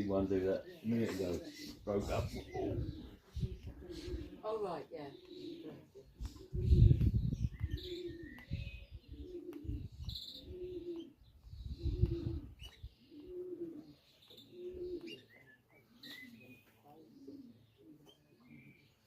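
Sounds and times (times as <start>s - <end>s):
pigeons cooing: 0.0s - 19.0s
small birds chirping: 0.0s - 19.0s.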